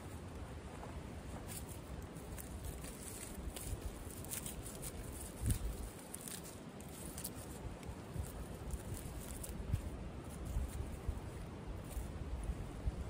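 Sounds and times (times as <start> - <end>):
rustling on forest floor: 0.0 - 13.0.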